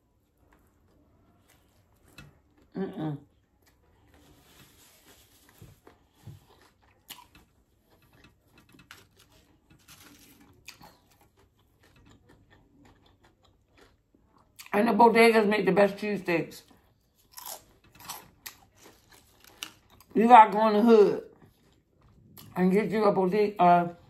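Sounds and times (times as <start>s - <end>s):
quiet chewing: 0.0s - 14.8s, 16.6s - 20.2s, 21.2s - 22.6s.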